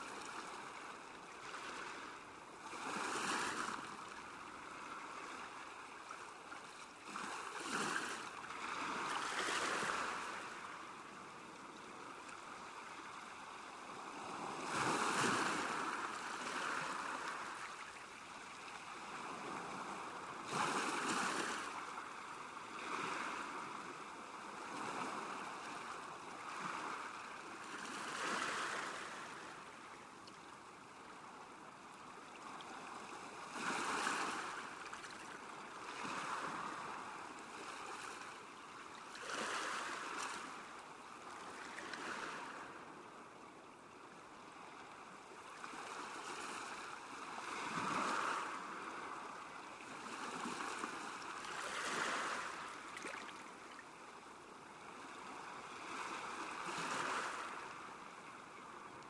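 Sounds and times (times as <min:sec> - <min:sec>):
small waves washing on shore: 0:00.0 - 0:59.0.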